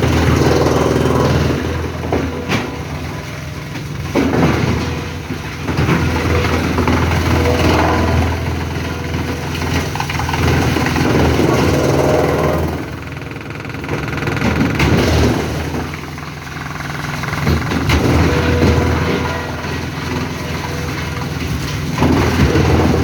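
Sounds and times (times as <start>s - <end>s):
wood chipper engine running: 0.0s - 23.0s.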